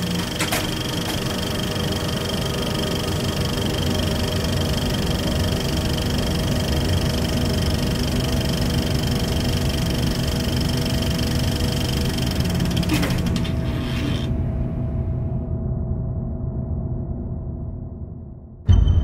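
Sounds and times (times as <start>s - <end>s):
mechanical drone: 0.0s - 16.1s.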